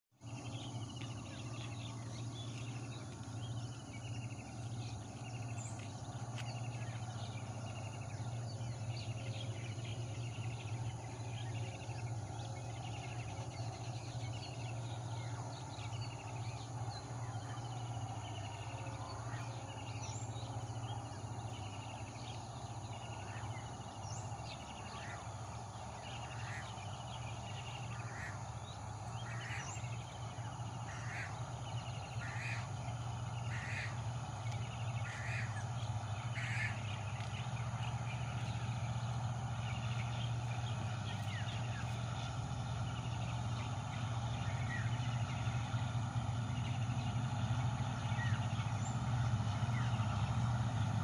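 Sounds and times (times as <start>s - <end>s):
steady low hum: 0.2s - 51.0s.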